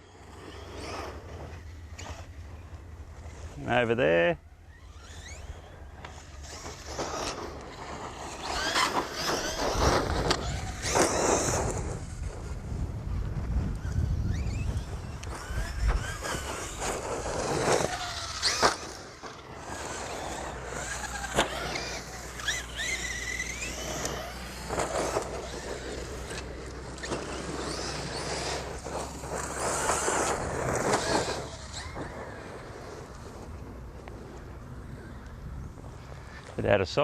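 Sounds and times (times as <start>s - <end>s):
rc truck motor whining: 0.0s - 3.6s, 4.4s - 35.6s
tyre and wind noise: 0.0s - 37.0s.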